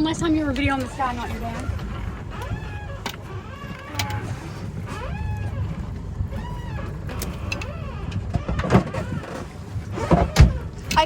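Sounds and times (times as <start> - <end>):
sailboat low rumble: 0.0 - 11.0.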